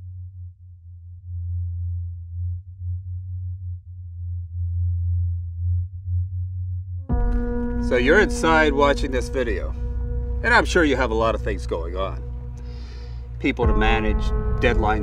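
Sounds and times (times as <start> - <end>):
deep bass drone: 0.0 - 15.0.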